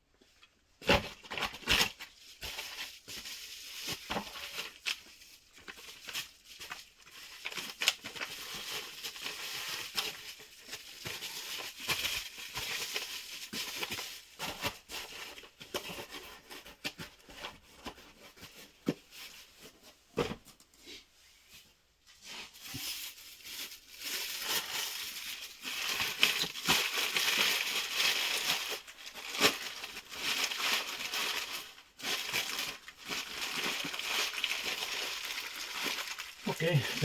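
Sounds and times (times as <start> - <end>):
packaging crinkling and rustling: 0.8 - 20.7, 22.1 - 37.0.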